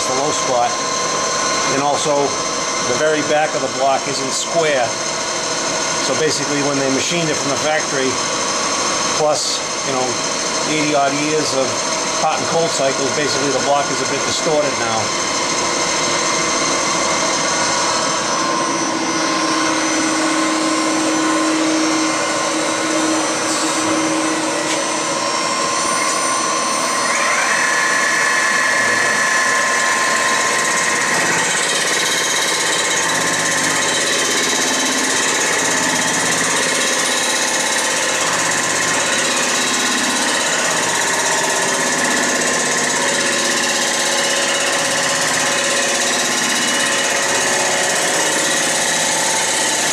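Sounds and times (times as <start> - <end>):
milling machine whine: 0.0 - 49.9.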